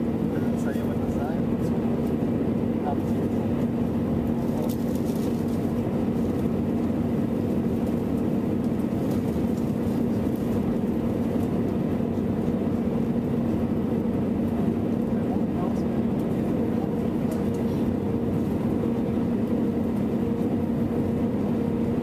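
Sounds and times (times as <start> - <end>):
airliner engines droning: 0.0 - 22.0
constant low hum: 0.0 - 22.0.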